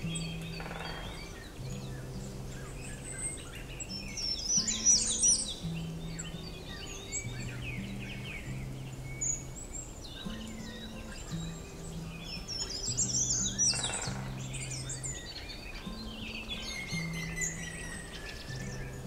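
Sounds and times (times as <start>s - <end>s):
soft background music: 0.0s - 19.0s
songbirds singing: 0.0s - 19.0s.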